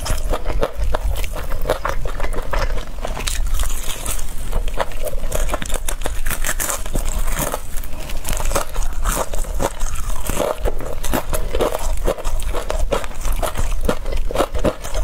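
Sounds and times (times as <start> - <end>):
crunching fried chicken being chewed: 0.0 - 15.0.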